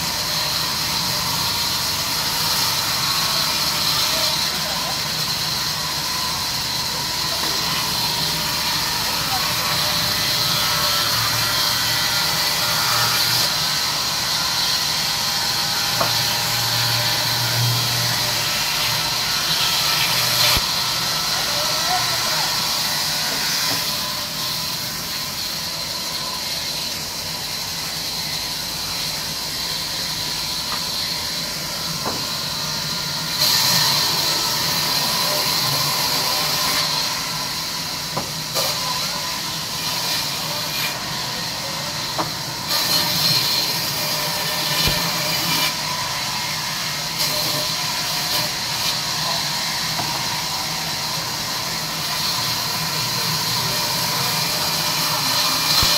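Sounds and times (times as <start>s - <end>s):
band saw cutting timber: 0.0s - 55.9s.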